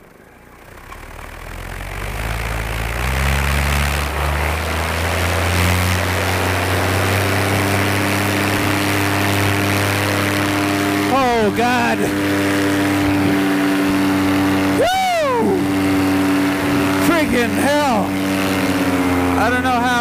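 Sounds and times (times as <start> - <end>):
paramotor engine and propeller: 0.0 - 20.0.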